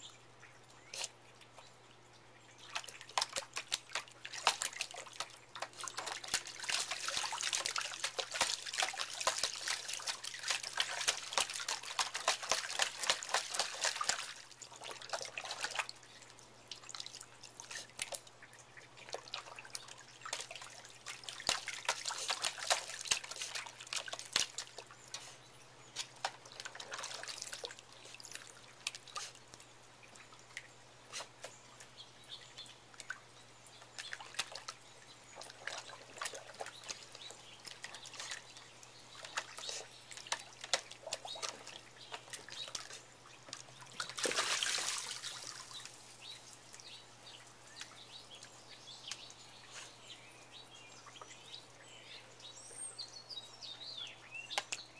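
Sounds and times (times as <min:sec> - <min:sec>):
water dripping: 0:00.0 - 0:49.8
puppy splashing water in tub: 0:02.4 - 0:49.8.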